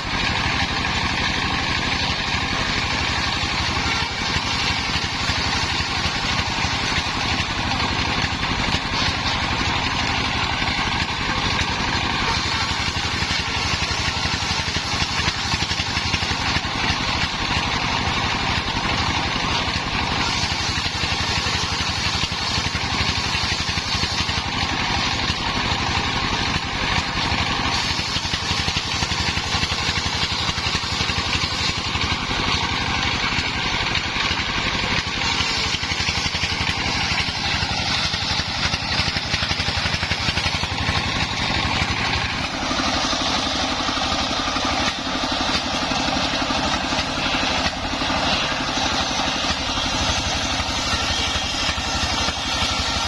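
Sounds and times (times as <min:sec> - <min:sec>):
engine drone: 0:00.0 - 0:53.0
saw blade cutting wood: 0:00.0 - 0:53.0.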